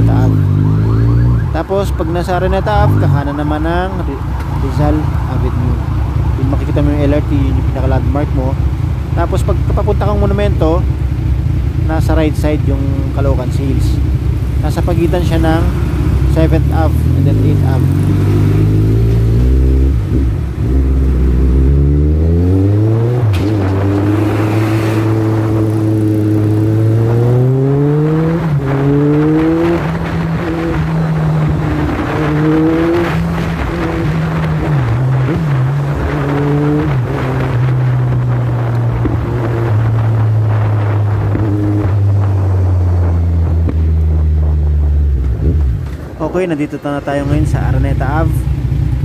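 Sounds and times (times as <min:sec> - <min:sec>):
motorcycle engine accelerating: 0:00.0 - 0:01.6, 0:02.4 - 0:46.2, 0:47.1 - 0:49.0
wind and road noise: 0:00.0 - 0:49.0.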